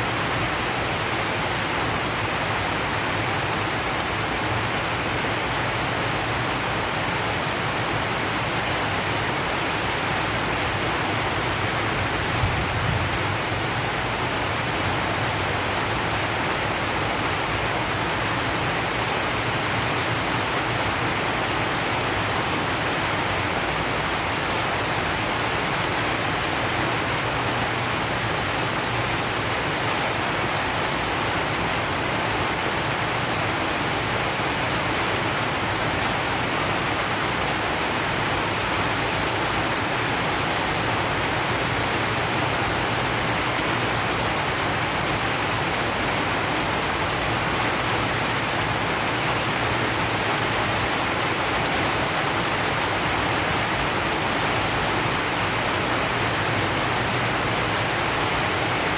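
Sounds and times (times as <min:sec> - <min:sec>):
rain on a metal roof: 0:00.0 - 0:58.9.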